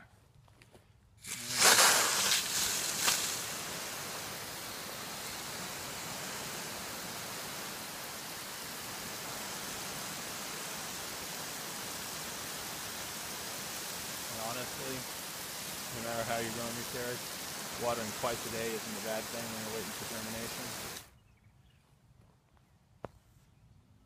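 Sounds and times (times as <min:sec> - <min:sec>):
hose nozzle spraying water on soil: 0:01.2 - 0:21.1.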